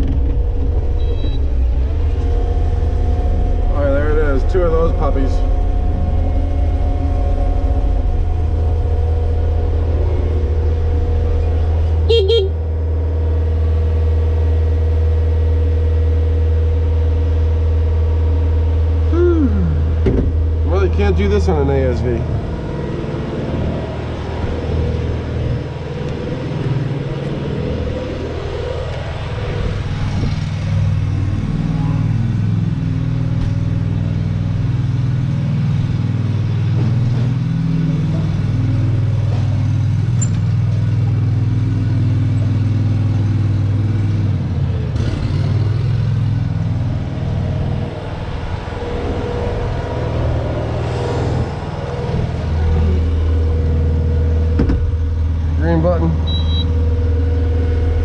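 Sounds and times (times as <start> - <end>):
track loader diesel engine running: 0.0 - 58.0.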